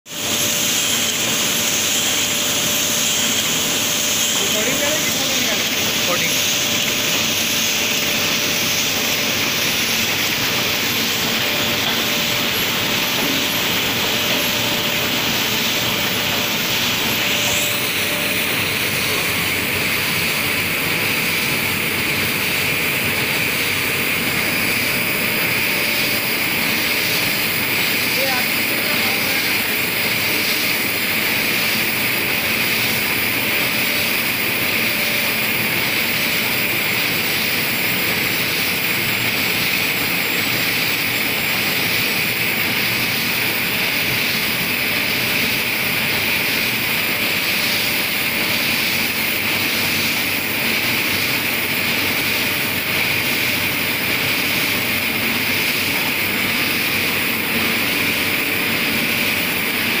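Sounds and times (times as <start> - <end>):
printing press running with high hiss: 0.1 - 60.0.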